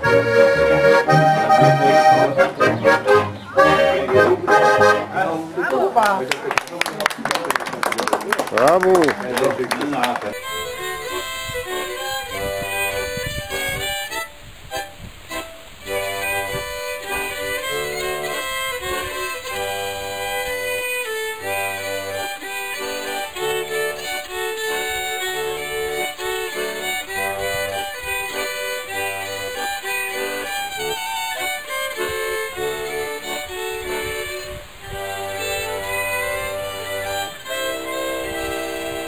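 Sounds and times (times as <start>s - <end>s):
bass notes accompaniment: 0.0s - 5.5s, 10.3s - 39.0s
fiddles playing a tune: 0.0s - 6.3s, 8.6s - 39.0s.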